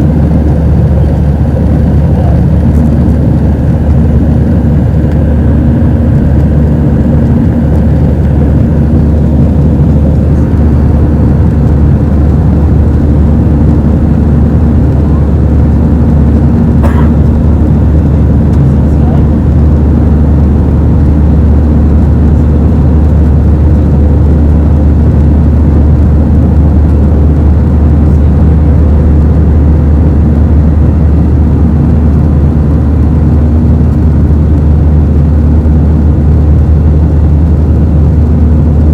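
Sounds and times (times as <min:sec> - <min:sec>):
jet engine cabin drone: 0:00.0 - 0:38.9
steady hum: 0:00.0 - 0:38.9.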